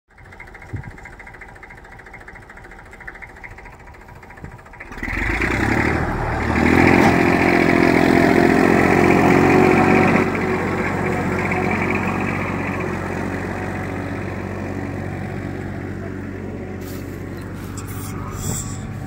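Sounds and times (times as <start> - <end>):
tractor engine running under load: 0.1 - 19.0.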